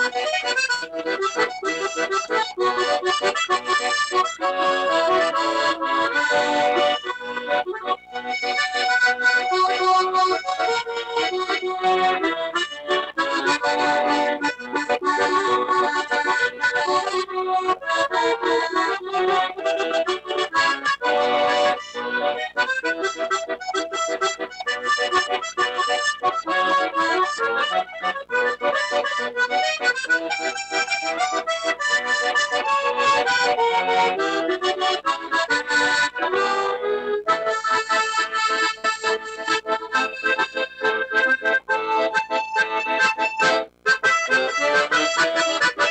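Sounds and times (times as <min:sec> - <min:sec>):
accordion playing quick notes: 0:00.0 - 0:45.9.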